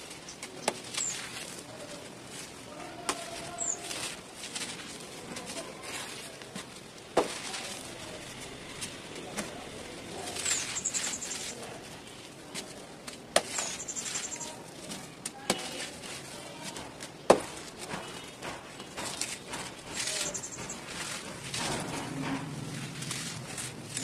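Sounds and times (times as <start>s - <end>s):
clumps snapping: 0.0s - 24.0s
dirt crumbling by hand: 0.0s - 24.0s
powder sifting through fingers: 0.0s - 24.0s.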